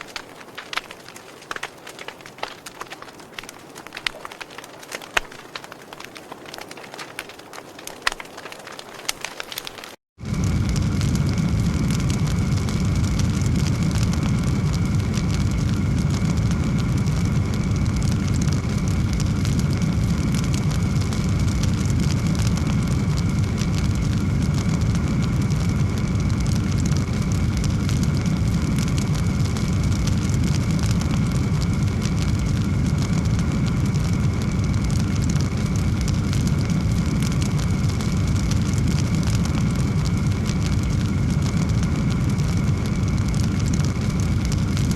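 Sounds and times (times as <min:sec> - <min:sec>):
fire roaring and crackling: 0:00.0 - 0:44.9.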